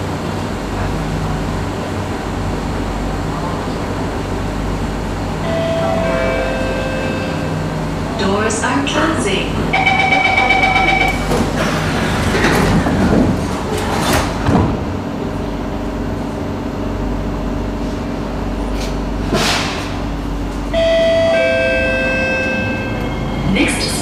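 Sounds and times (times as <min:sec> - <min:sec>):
train carriage hum: 0:00.0 - 0:24.0
train doors closing: 0:03.1 - 0:16.2, 0:17.8 - 0:24.0.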